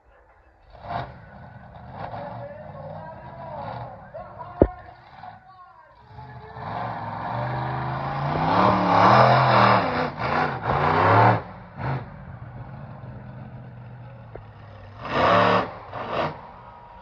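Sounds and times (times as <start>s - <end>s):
truck engine revving: 0.6s - 5.4s, 6.0s - 17.0s.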